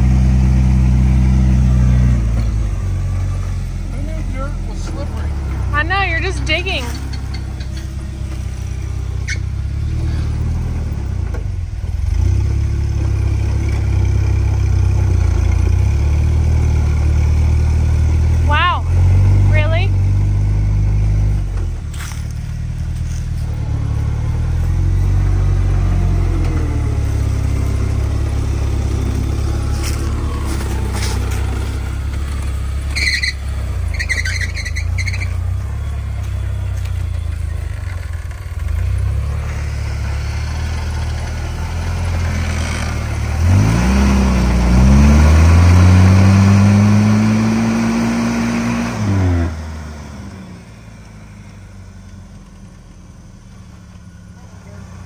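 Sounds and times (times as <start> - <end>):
off-road vehicle engine revving: 0.0 - 55.0
tires spinning throwing dirt: 0.0 - 55.0.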